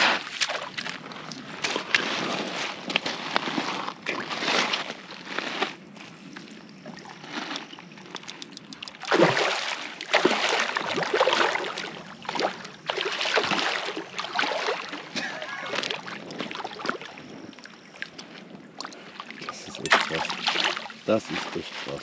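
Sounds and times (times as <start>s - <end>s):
water splashing and sloshing: 0.0s - 22.0s.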